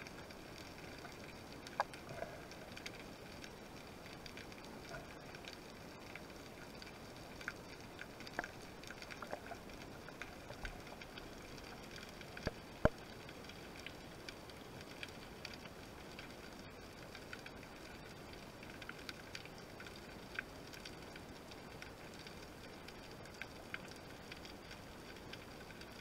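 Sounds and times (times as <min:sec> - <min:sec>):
crackling clicks: 0:00.0 - 0:26.0
faint underwater hiss: 0:00.0 - 0:26.0.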